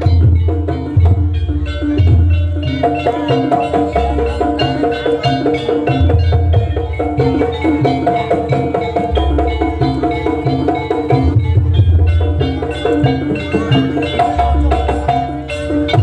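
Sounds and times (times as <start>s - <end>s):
gamelan drums and percussion: 0.0s - 16.0s.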